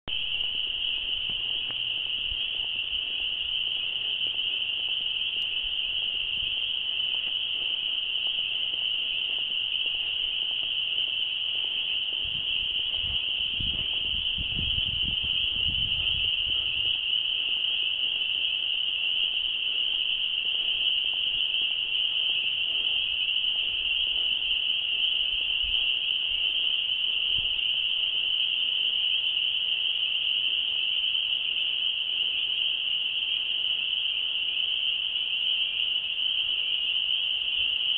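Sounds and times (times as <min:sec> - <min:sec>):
chorus of frogs peeping: 0:00.1 - 0:37.9.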